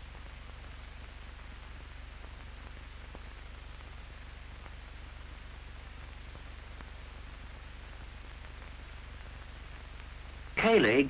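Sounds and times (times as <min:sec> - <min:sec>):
film soundtrack hiss: 0:00.0 - 0:11.0.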